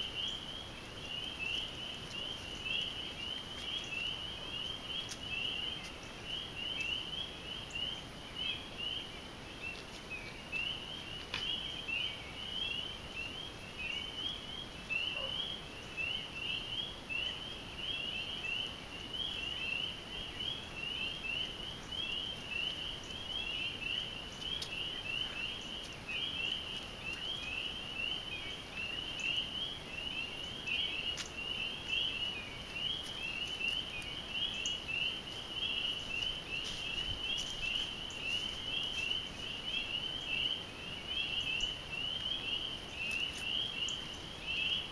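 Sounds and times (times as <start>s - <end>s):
frogs calling: 0.0s - 44.9s.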